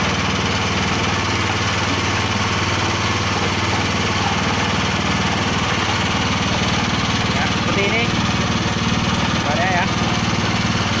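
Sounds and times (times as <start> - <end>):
waste grinding machine running: 0.0 - 11.0.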